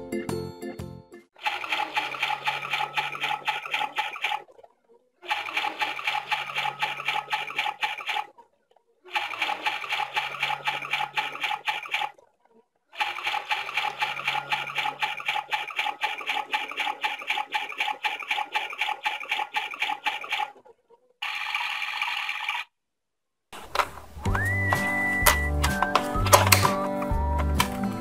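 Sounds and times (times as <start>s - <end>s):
toy washing machine clicking: 1.4s - 4.5s, 5.2s - 8.3s, 9.1s - 12.2s, 13.0s - 20.6s, 21.2s - 22.7s, 23.6s - 27.8s.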